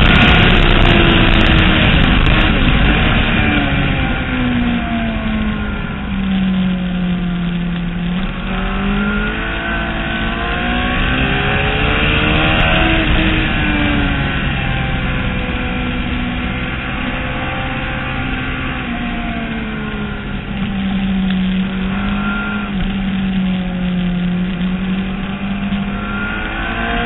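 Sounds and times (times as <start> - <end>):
motorcycle engine at speed: 0.0 - 27.0.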